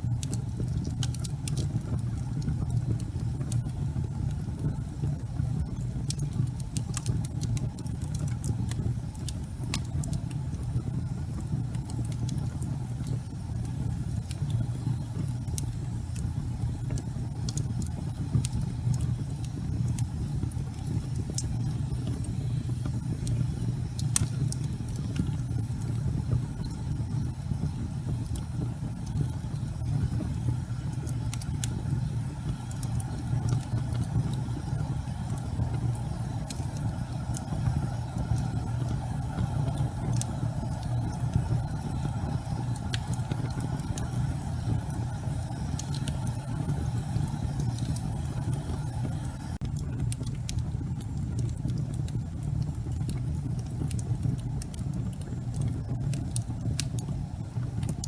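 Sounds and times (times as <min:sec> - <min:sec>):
fire crackles and pops: 0:00.0 - 0:58.0
low rumble of flames: 0:00.0 - 0:58.0.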